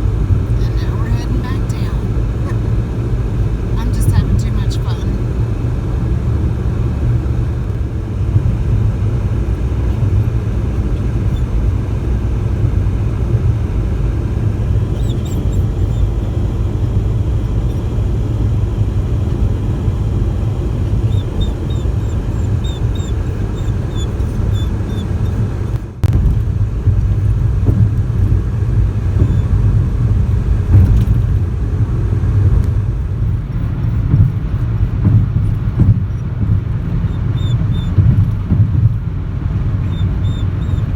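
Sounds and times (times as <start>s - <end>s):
car driving on road: 0.0s - 40.9s.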